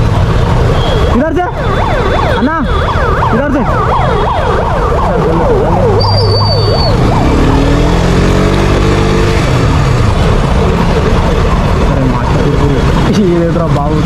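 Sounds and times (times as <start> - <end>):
street traffic: 0.0 - 14.0
siren wailing: 0.7 - 13.2.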